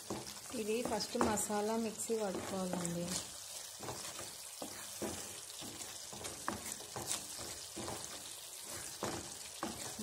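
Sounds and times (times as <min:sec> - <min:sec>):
gravy sizzling in a pan: 0:00.0 - 0:10.0
spatula scraping a pan: 0:00.0 - 0:10.0.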